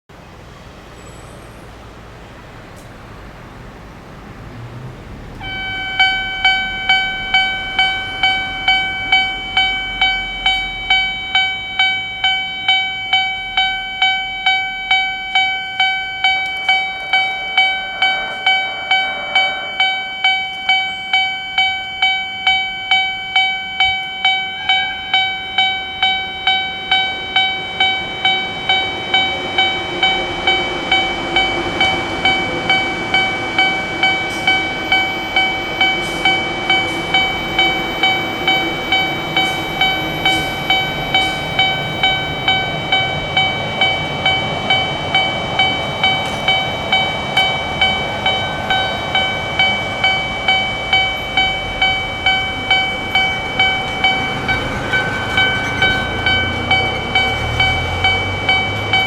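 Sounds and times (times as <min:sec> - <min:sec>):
low rumble of approaching train: 0:00.1 - 0:59.0
level-crossing electronic bell: 0:05.4 - 0:59.0.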